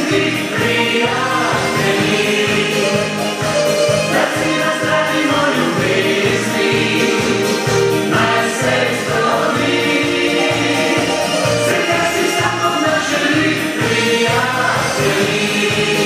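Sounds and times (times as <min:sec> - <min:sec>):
pop duet singing: 0:00.0 - 0:16.0.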